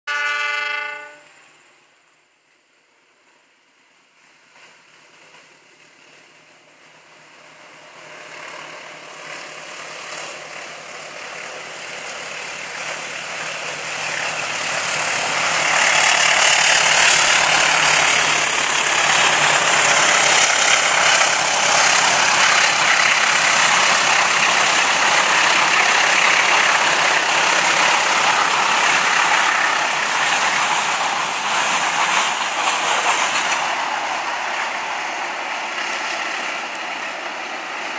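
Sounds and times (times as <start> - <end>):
diesel train passing: 2.9 - 37.9.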